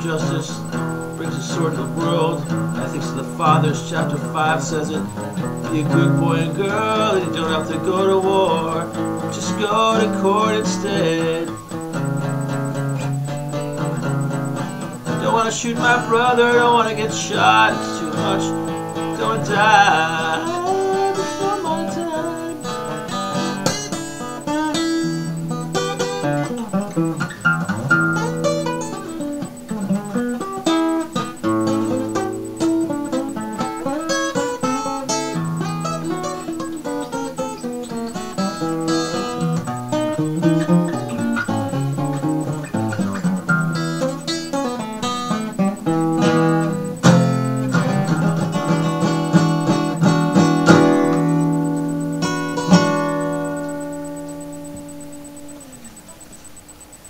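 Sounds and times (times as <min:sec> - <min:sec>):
acoustic blues guitar: 0:00.0 - 0:55.8.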